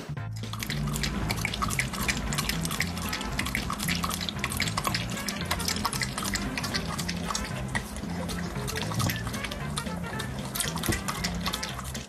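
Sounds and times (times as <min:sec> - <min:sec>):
background music with low notes: 0:00.0 - 0:12.0
dog lapping milk: 0:00.4 - 0:12.0.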